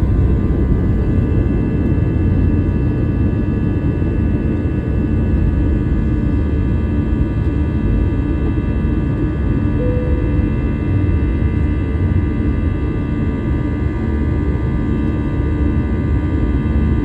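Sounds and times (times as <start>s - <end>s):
jet engine rumble and whine: 0.0s - 17.0s.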